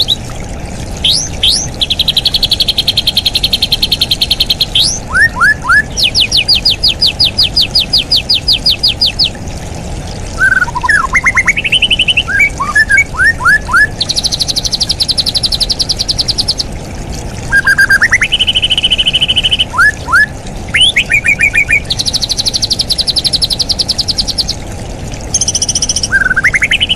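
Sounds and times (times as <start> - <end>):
bird singing trills and whistles: 0.0 - 0.3, 1.0 - 9.4, 10.4 - 16.7, 17.5 - 24.6, 25.3 - 26.9.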